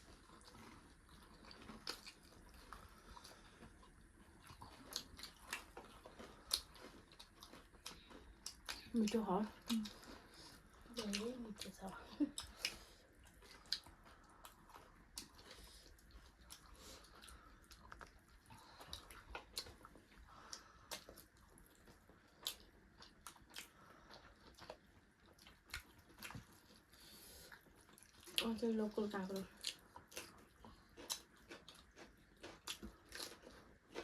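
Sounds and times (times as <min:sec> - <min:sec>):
people chewing food: 0:00.0 - 0:34.0.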